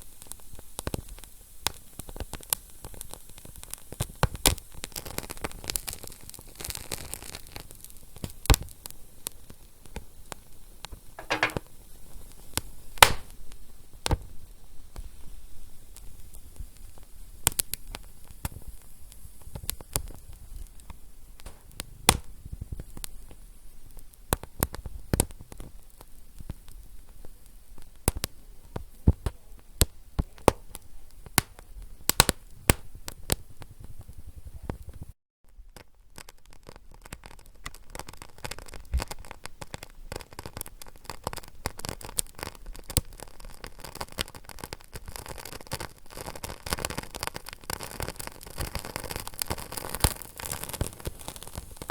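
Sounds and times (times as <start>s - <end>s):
wood fire crackling and popping: 0.2s - 15.3s, 15.9s - 35.2s, 35.8s - 51.9s.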